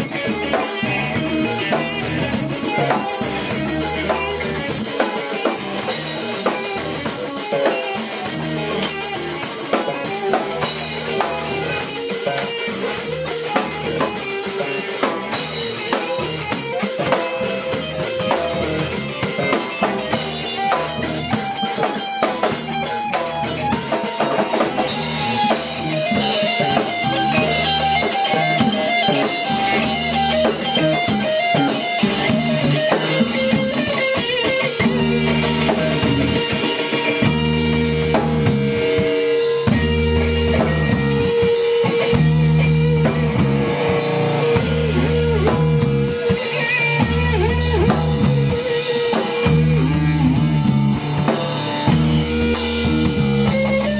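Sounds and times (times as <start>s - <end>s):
drum kit beat: 0.0s - 53.9s
electric guitar: 0.0s - 53.9s.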